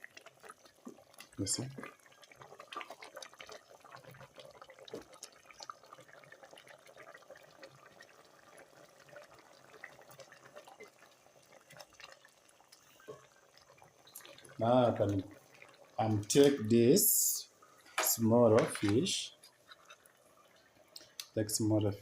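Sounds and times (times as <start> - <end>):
water dripping and splashing: 0.0 - 21.9.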